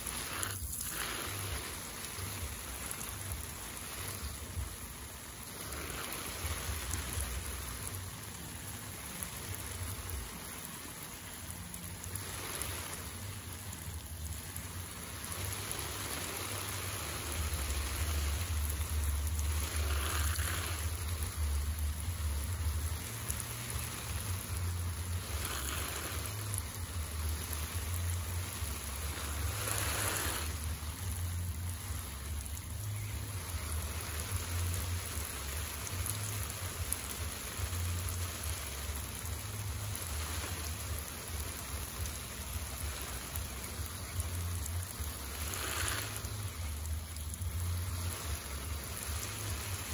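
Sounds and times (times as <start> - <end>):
hiss of falling water: 0.0 - 49.9.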